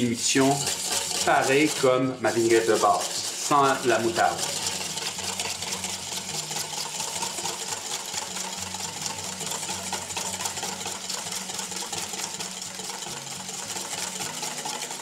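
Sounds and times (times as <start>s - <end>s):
wire whisk clattering in metal bowl: 0.0s - 15.0s.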